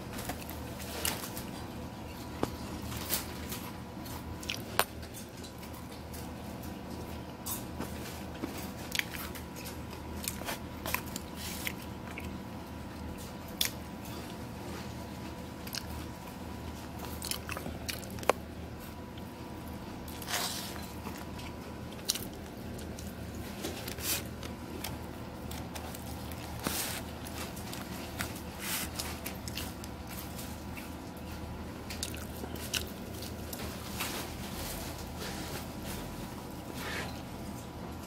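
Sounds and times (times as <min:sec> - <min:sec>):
person chewing and crunching: 0:00.0 - 0:35.0.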